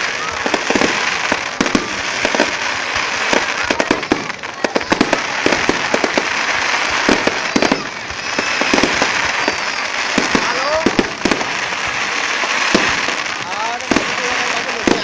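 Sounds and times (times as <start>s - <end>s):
crackling hiss: 0.0s - 15.0s
fireworks bangs and pops: 0.0s - 15.0s.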